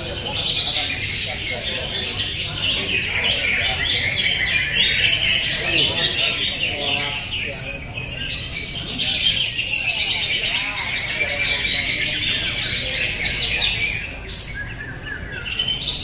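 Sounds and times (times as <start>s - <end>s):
caged birds chirping and whistling: 0.0s - 16.0s.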